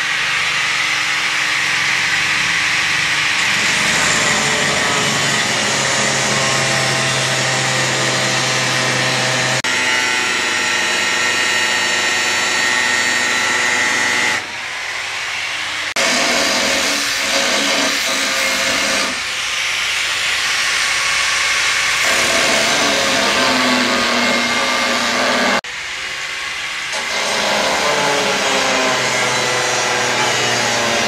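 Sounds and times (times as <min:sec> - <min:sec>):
angle grinder cutting metal: 0:00.0 - 0:31.0.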